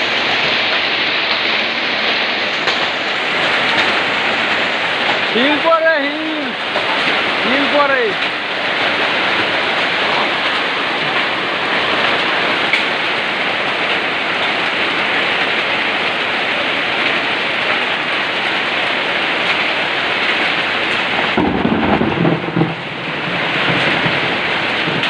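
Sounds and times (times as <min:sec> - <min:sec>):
heavy rain and hail: 0:00.0 - 0:25.0.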